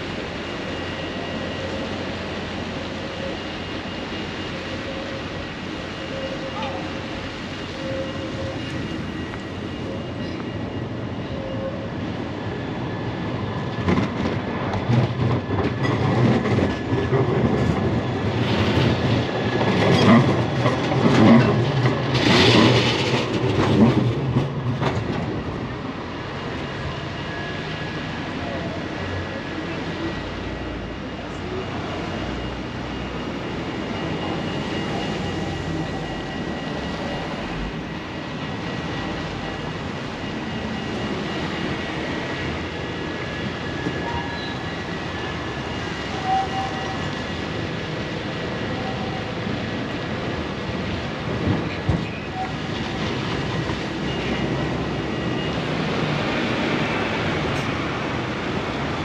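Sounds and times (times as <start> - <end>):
rail vehicle running on rails: 0.0 - 59.0.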